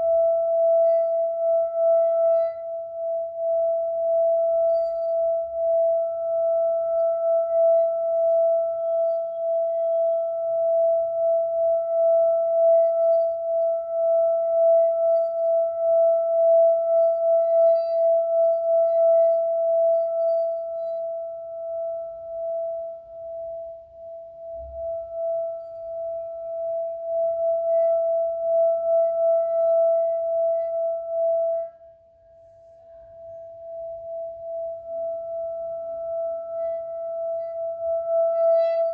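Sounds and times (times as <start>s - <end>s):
singing bowl ringing: 0.0s - 6.0s, 6.7s - 31.8s, 32.4s - 38.9s.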